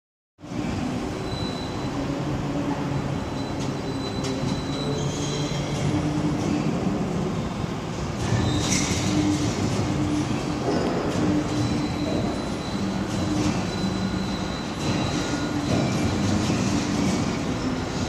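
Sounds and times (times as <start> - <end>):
overhead crane rumble and whine: 0.4 - 18.0.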